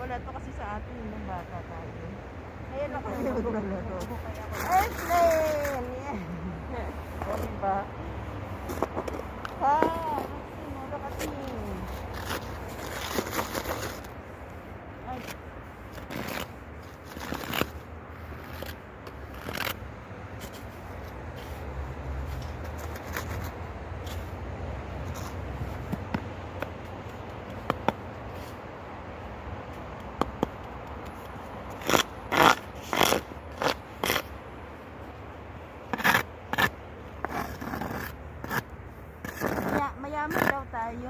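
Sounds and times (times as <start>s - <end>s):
continuous scraping: 2.8s - 41.0s.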